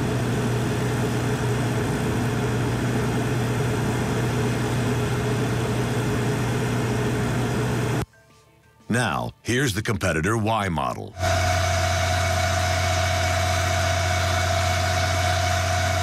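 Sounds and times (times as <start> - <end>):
generator engine hum: 0.0 - 8.0, 11.1 - 16.0.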